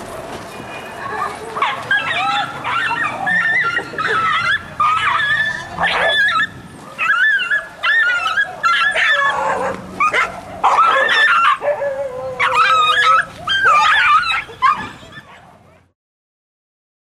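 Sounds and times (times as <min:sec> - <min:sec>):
dog yelping and whining: 0:01.6 - 0:15.5.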